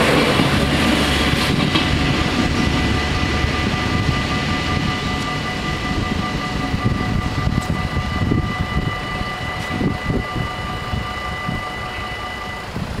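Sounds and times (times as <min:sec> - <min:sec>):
level-crossing bells ringing: 0:00.0 - 0:12.8.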